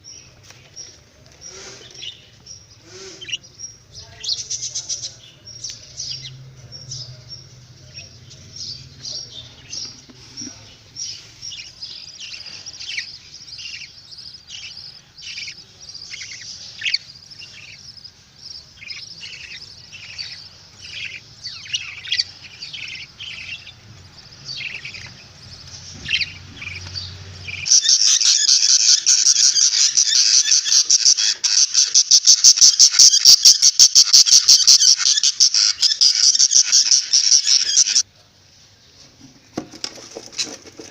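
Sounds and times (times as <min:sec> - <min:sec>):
budgerigars chirping and chattering: 0:00.1 - 0:38.1.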